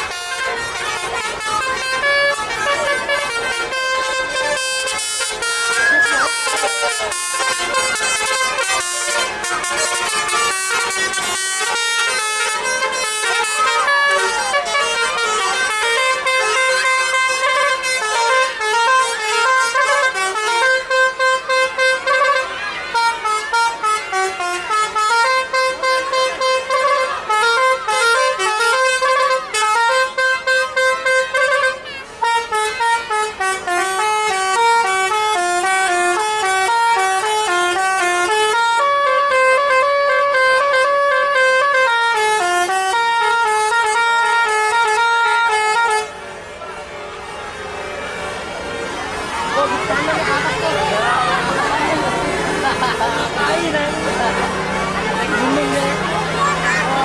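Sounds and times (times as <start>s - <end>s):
musical air horn tune: 0.0s - 46.2s.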